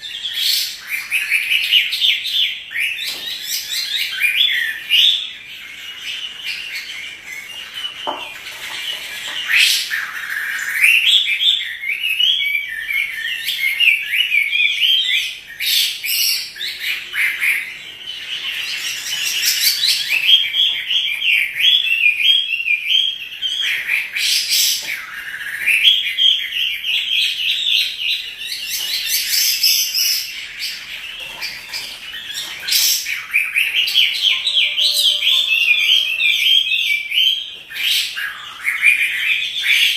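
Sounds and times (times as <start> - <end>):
songbird warbling: 2.8 - 39.9.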